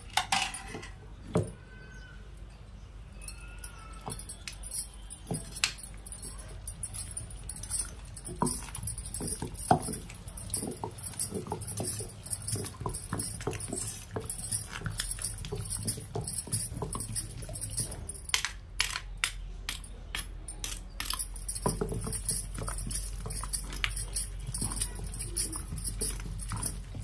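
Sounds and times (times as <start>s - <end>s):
glass bangles clinking: 0.0s - 1.6s, 2.5s - 27.0s.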